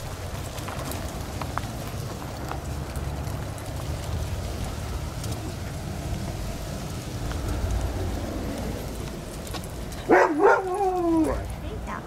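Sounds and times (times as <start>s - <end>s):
dog paws on wood chips: 0.0s - 12.0s
steady low rumble: 0.0s - 12.0s.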